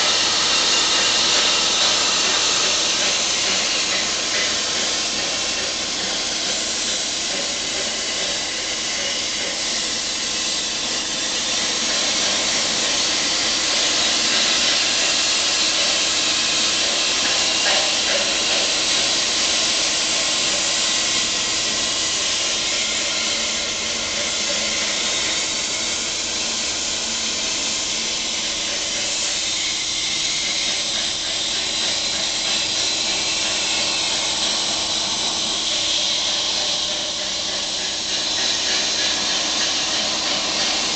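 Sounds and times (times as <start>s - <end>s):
plasma cutter arc hissing: 0.0s - 40.9s.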